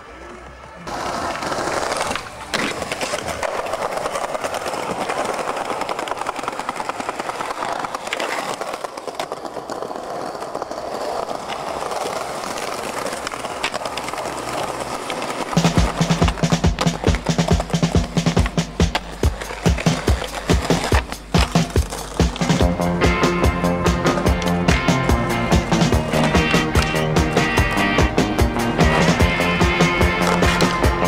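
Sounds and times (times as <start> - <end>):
skateboard wheels rolling on paving: 0.0 - 31.0
skateboard knock: 2.5 - 31.0.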